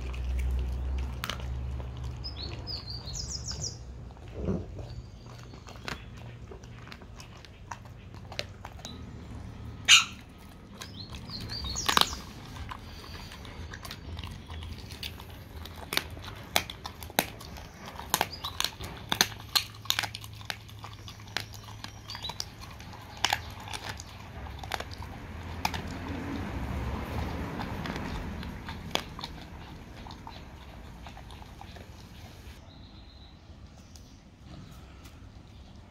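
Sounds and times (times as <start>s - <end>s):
dog chewing bone crunches: 0.0s - 32.6s.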